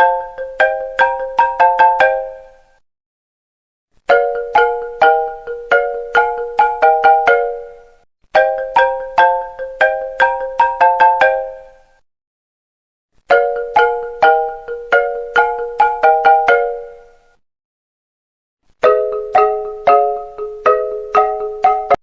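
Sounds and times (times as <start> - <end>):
marimba-like ringtone melody: 0.0 - 2.8, 4.1 - 12.0, 13.3 - 17.3, 18.8 - 22.0.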